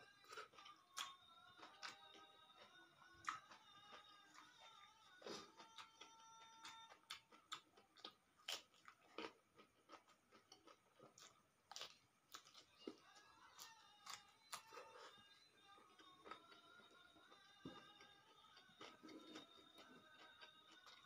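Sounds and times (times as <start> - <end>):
person chewing: 0.1 - 21.0.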